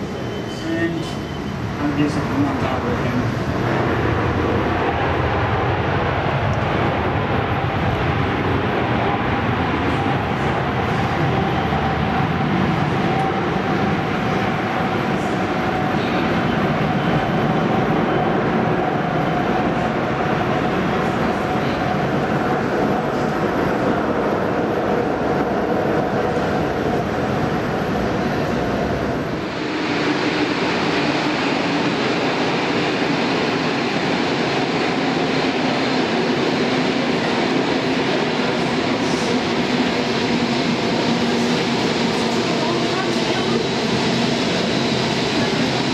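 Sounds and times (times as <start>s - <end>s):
jet engine whine: 0.0s - 45.9s
jet engines roaring: 2.0s - 23.7s, 28.8s - 45.9s.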